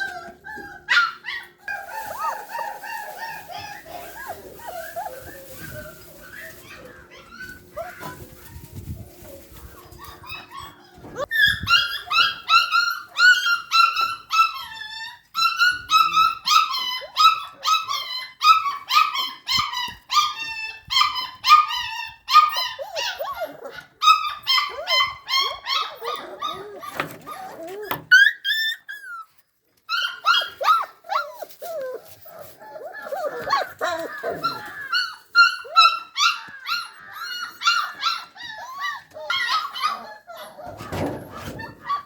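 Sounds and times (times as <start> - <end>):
puppy whining and yelping: 0.0 - 42.0.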